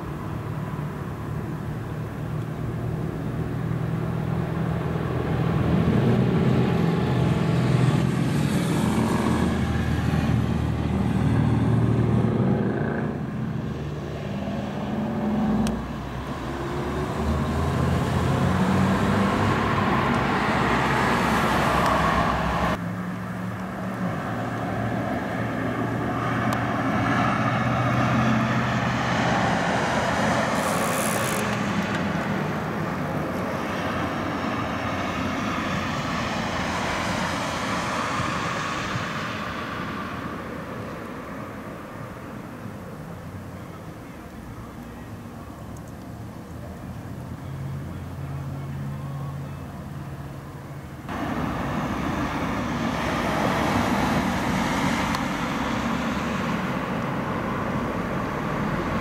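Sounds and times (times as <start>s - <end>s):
engines rumbling: 0.0s - 59.0s.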